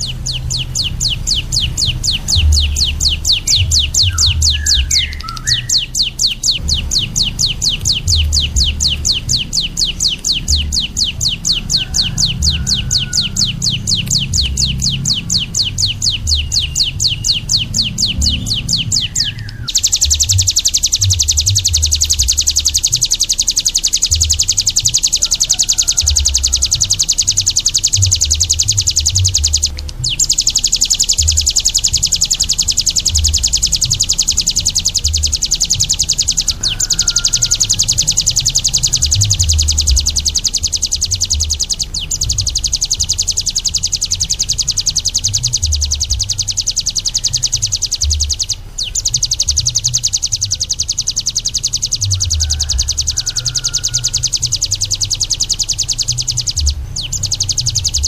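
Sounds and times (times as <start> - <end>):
low rumble: 0.0 - 23.1, 26.0 - 50.7
songbird singing: 0.0 - 58.0.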